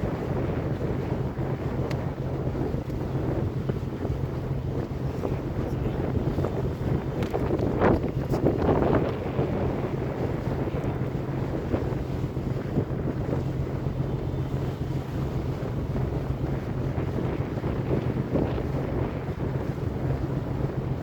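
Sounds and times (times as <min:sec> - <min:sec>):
boat engine droning: 0:00.0 - 0:21.0
wind buffeting microphone: 0:00.0 - 0:21.0.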